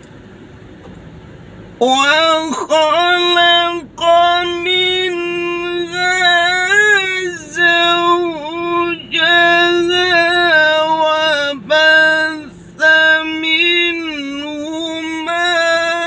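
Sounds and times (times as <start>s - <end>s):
man chanting melodically: 1.8s - 16.0s.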